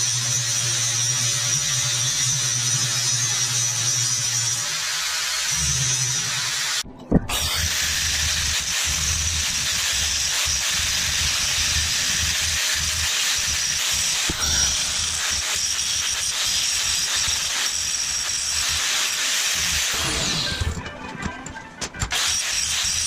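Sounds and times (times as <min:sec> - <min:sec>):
angle grinder grinding steel: 0:00.0 - 0:20.8, 0:22.0 - 0:23.0
band saw cutting steel: 0:00.0 - 0:20.8, 0:22.0 - 0:23.0.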